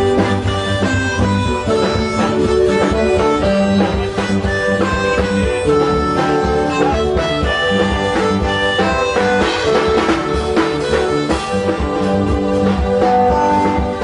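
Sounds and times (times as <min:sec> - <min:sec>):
electronic keyboard playing a tune: 0:00.0 - 0:14.0.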